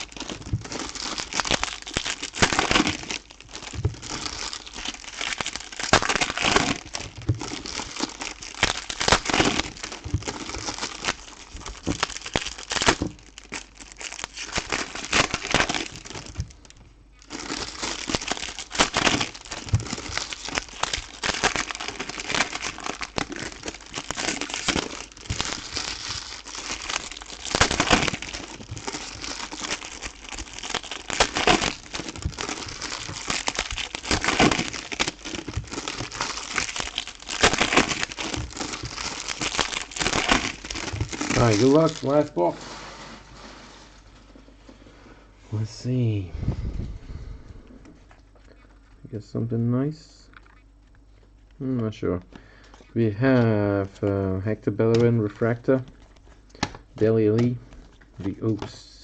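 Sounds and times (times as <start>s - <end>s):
plastic wrapping crinkling: 0.0s - 44.7s, 47.8s - 49.1s, 50.2s - 59.0s.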